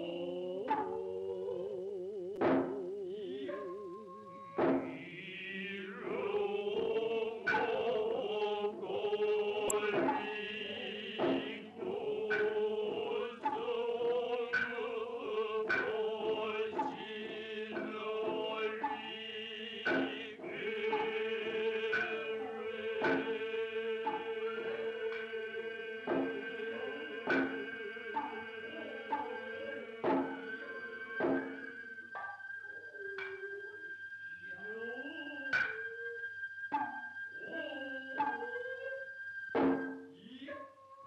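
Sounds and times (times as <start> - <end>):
voices chanting in unison: 0.0 - 40.7.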